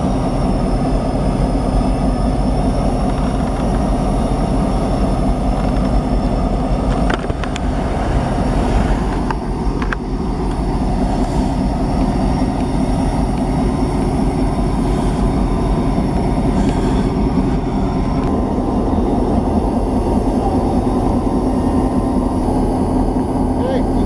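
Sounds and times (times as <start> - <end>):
diesel locomotive engine idling: 0.0 - 24.0.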